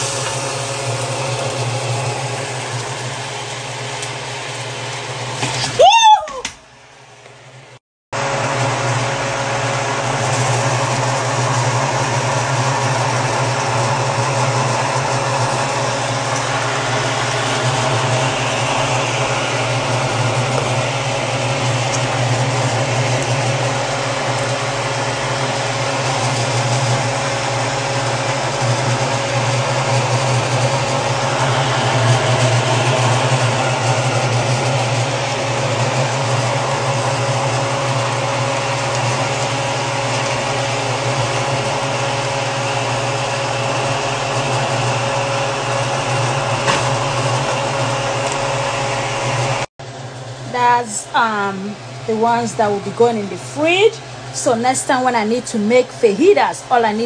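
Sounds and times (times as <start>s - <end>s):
machine running with low hum: 6.7s - 57.0s.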